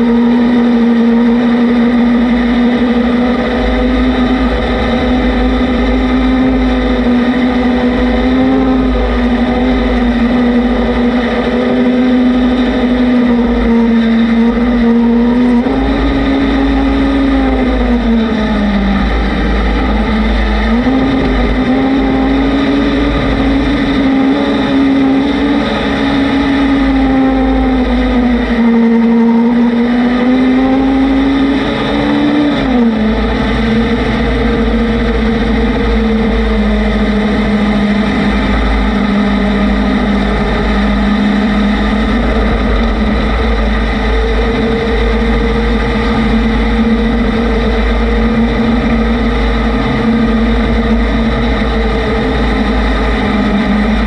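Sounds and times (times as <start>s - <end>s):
vehicle engine running: 0.0s - 54.0s
wind rumbling on microphone: 0.0s - 54.0s.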